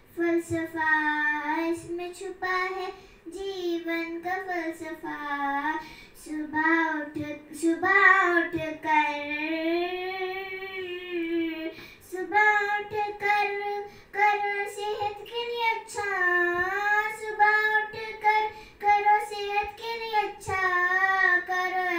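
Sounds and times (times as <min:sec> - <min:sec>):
girl singing into microphone: 0:00.0 - 0:21.9.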